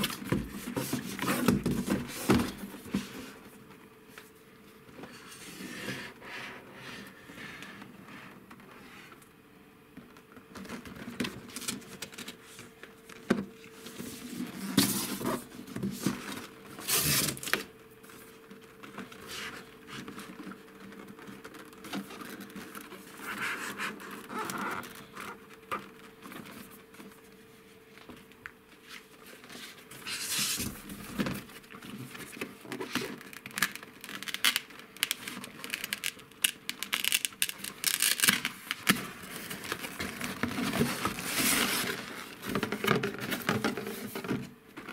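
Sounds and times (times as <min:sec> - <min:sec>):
cardboard rustling and scraping: 0:00.0 - 0:09.2, 0:10.4 - 0:36.2, 0:36.9 - 0:44.9.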